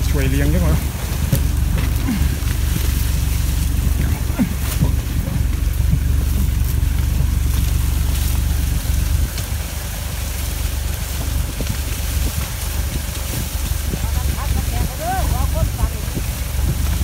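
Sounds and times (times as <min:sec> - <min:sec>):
tractor engine rumbling: 0:00.0 - 0:17.0
wind buffeting microphone: 0:00.0 - 0:17.0.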